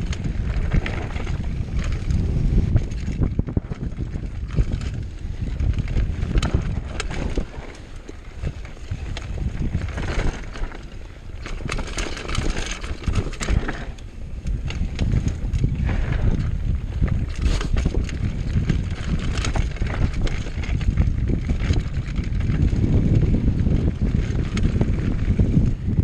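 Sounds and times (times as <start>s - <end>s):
bike frame and chain rattling: 0.0s - 26.0s
wind buffeting microphone: 0.0s - 26.0s.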